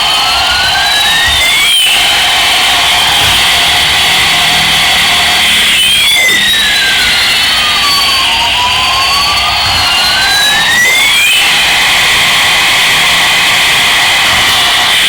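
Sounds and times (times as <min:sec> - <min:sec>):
toy airliner jet-engine sound: 0:00.0 - 0:15.0.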